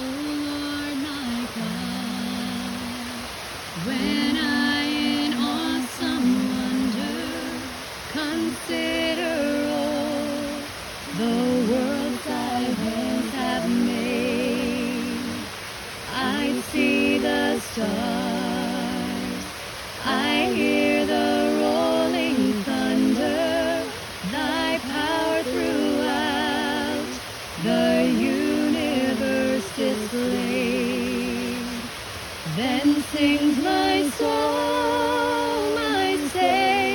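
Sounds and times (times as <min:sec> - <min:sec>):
falling water hiss: 0:00.0 - 0:36.9
woman singing unaccompanied: 0:00.0 - 0:36.9.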